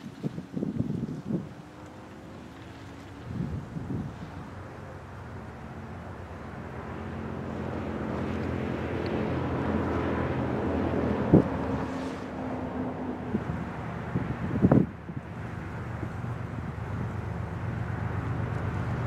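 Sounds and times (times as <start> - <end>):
freight train diesel engines droning: 3.1 - 19.0.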